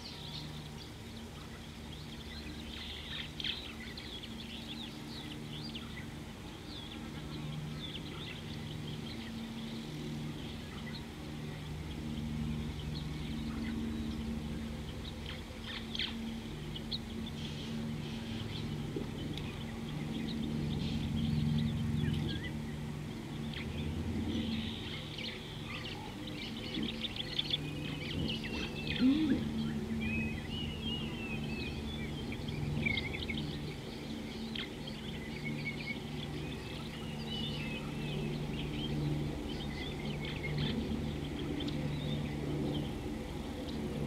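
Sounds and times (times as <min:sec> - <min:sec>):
birds chirping and calling: 0:00.0 - 0:44.0
low hum: 0:00.0 - 0:44.0.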